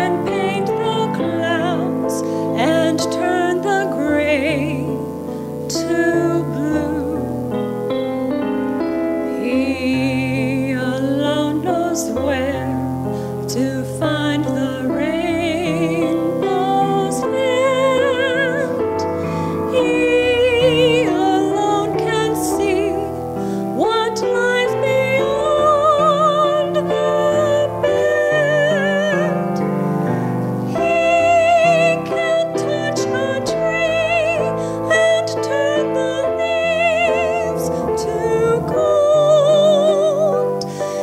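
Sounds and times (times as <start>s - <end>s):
woman singing with vibrato: 0.0s - 7.8s, 9.2s - 41.0s
piano accompaniment: 0.0s - 41.0s.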